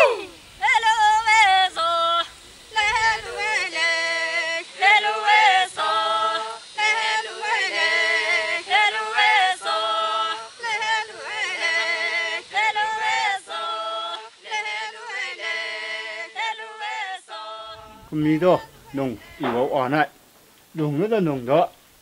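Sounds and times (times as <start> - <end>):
unaccompanied voices singing: 0.0 - 21.7.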